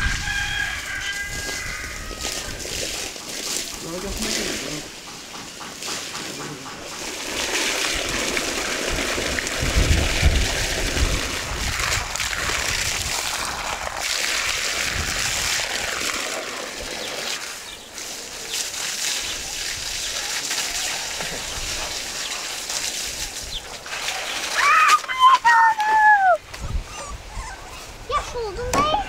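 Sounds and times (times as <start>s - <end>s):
hose water splashing into metal pan: 0.0s - 26.3s.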